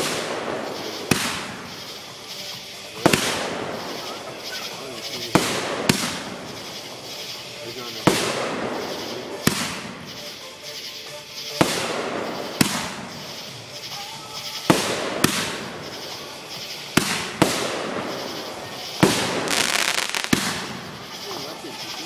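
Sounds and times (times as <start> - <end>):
firework shells bursting: 0.0 - 22.0.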